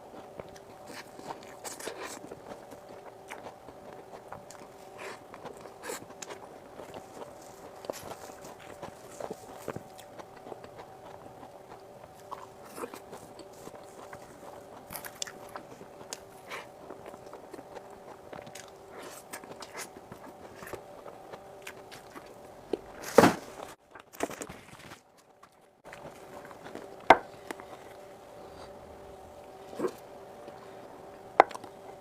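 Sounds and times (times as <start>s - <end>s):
chewing: 0.0s - 32.0s
faint steady hum: 0.0s - 32.0s.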